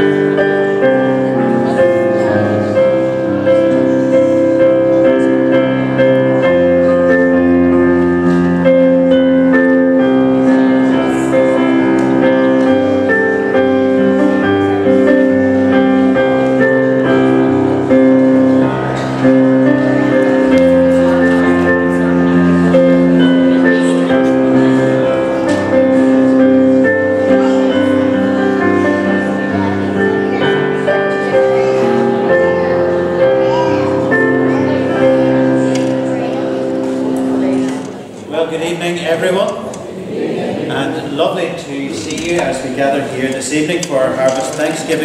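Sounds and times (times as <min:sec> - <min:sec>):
slow keyboard chords: 0:00.0 - 0:45.0.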